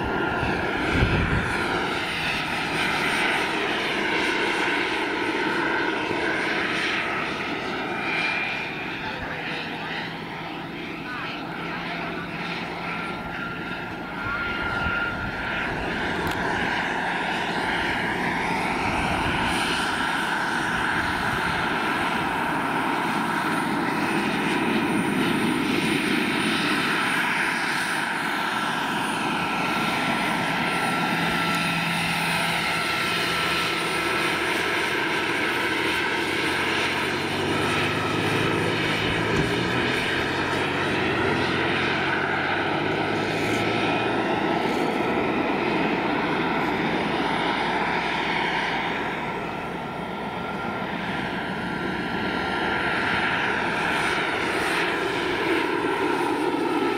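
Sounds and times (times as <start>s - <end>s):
helicopter rotor noise: 0.0s - 56.9s
turbine whine: 0.0s - 56.9s.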